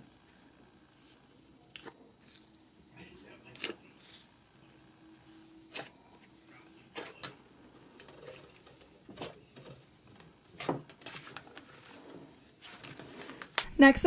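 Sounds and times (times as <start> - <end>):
slime squishing: 0.2 - 4.4, 5.2 - 13.6.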